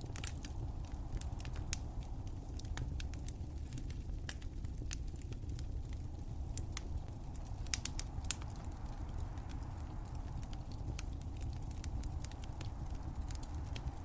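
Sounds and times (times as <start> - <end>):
fire crackling and popping: 0.0 - 14.0
steady low rumble: 0.0 - 14.0.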